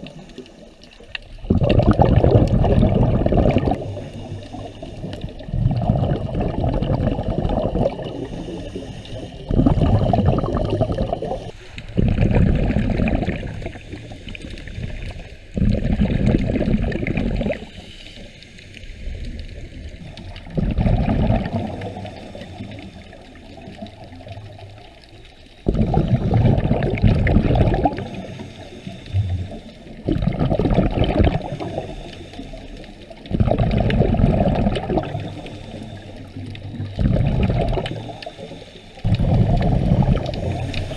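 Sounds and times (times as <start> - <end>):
diver exhaling bubbles underwater: 1.2 - 17.7, 19.1 - 24.8, 25.6 - 32.3, 33.2 - 40.9.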